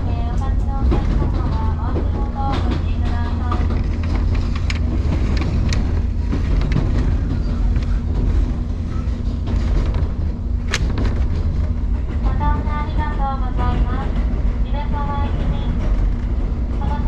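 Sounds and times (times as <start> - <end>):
electric train rumbling: 0.0 - 17.0
wheels clicking on track: 0.0 - 17.0.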